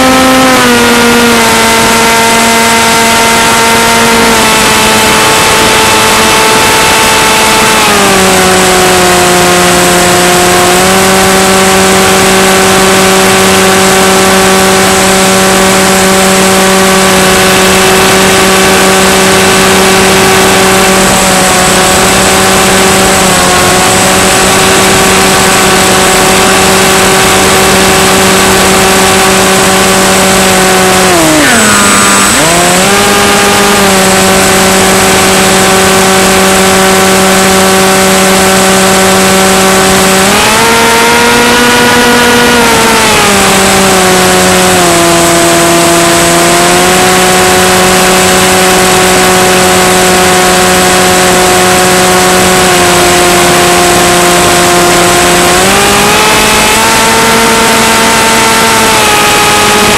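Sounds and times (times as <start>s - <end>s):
model plane propeller droning: 0.0s - 59.9s.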